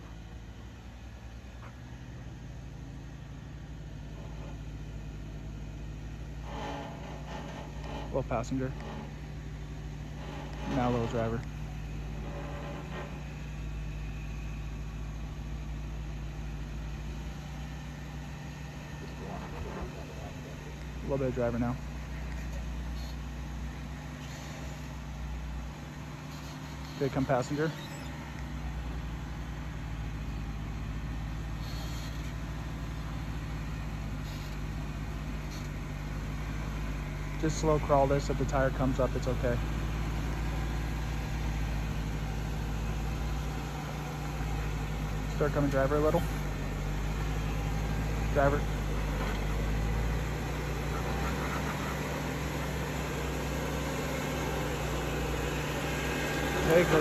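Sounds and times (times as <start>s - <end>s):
engine low rumble: 0.0s - 57.0s.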